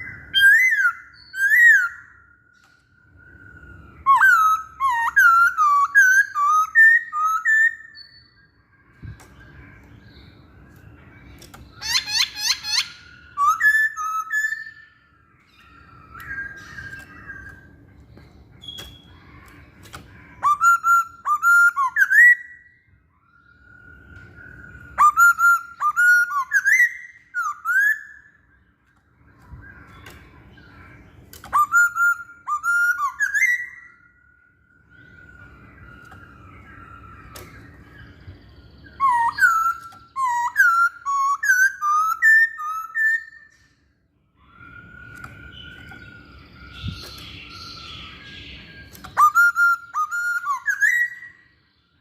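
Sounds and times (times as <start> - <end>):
bird singing whistled phrases: 0.0 - 17.8, 18.5 - 28.7, 31.4 - 43.7, 44.4 - 52.0.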